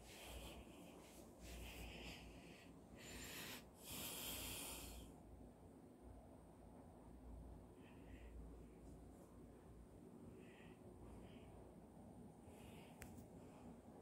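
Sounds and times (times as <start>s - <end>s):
soft breathing: 0.0s - 5.4s, 7.3s - 14.0s.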